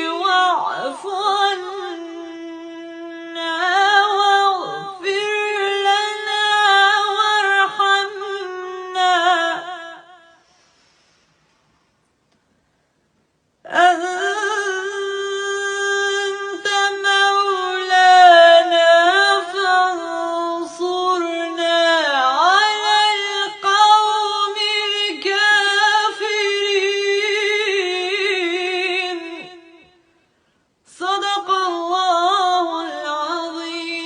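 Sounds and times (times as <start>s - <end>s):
woman reciting melodically: 0.0s - 10.4s, 13.6s - 30.2s, 30.8s - 34.0s.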